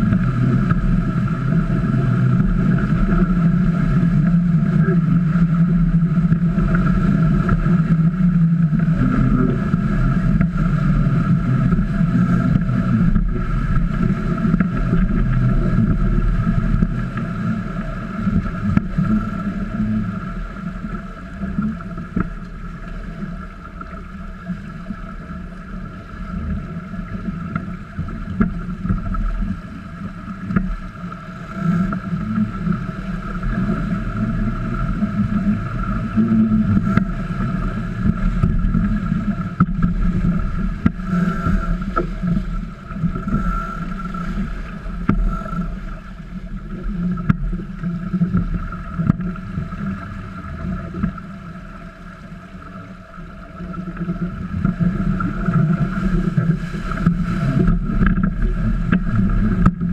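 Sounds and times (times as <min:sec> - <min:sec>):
water splashing along hulls: 0:00.0 - 0:59.9.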